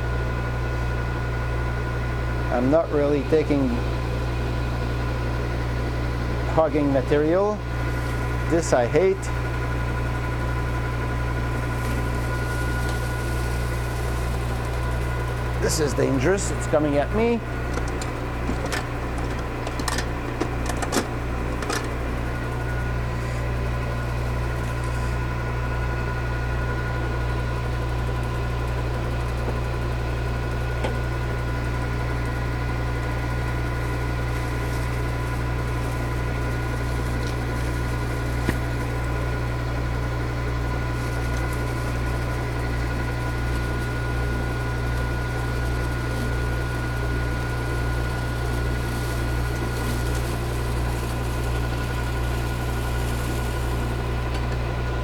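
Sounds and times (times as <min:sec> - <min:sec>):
milling machine running: 0:00.0 - 0:55.0.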